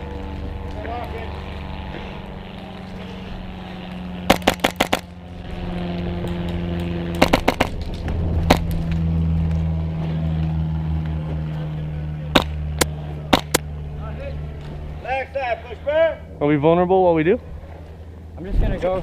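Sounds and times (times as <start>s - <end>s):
low steady drone: 0.0s - 15.7s.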